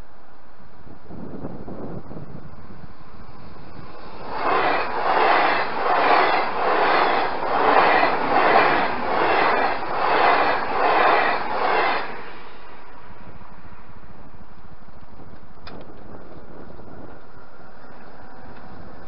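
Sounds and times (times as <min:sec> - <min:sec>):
electric train passing at speed: 0:00.0 - 0:19.0.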